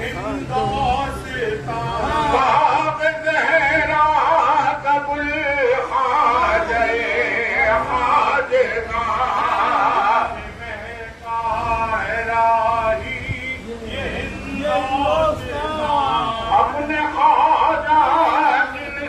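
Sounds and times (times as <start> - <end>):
man singing devotional song: 0.0 - 19.0.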